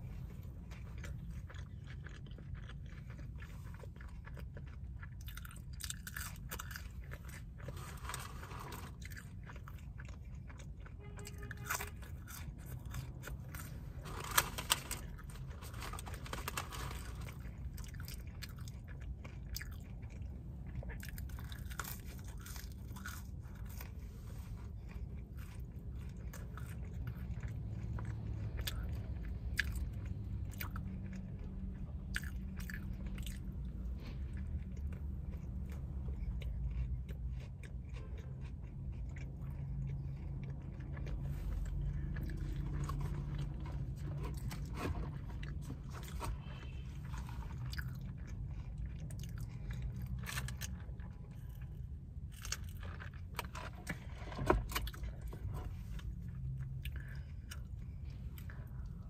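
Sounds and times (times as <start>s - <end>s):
chewing and crunching sandwich: 0.0s - 59.0s.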